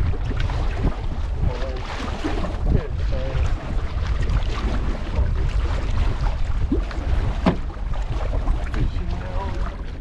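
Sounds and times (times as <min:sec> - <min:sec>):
water around hull: 0:00.0 - 0:10.0
wind buffeting microphone: 0:00.0 - 0:10.0.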